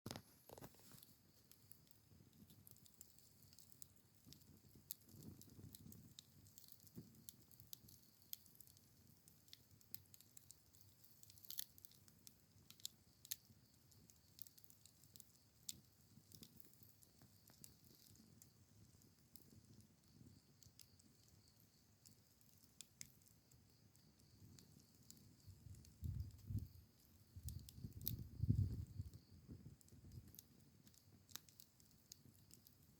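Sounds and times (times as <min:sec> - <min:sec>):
campfire crackling and popping: 0:00.1 - 0:32.9.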